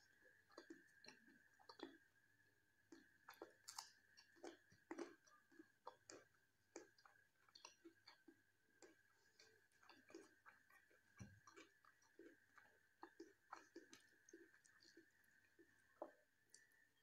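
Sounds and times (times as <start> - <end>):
wet chewing and mouth clicks: 0.0 - 2.2, 2.8 - 17.0.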